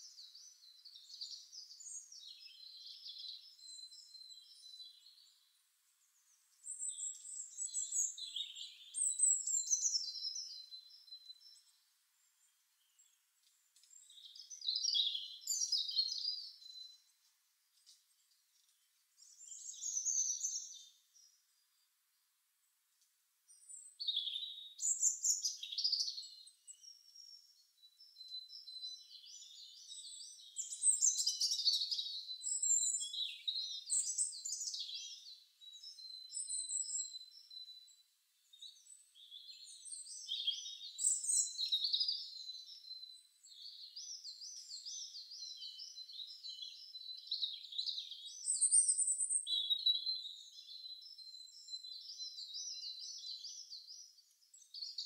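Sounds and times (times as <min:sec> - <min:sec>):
birdsong chirps and trills: 0:00.0 - 0:22.1, 0:23.5 - 0:55.0.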